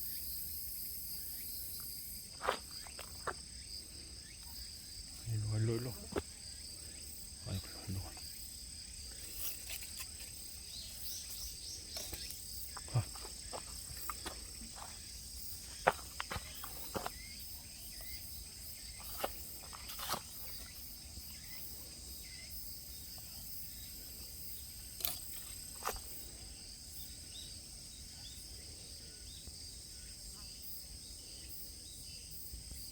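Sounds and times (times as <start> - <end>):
insect chorus trilling: 0.0 - 32.9.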